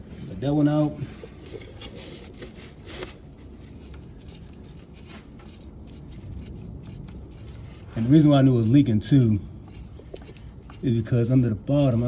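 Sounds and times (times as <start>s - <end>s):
hand tools clicking and scraping: 1.1s - 12.0s.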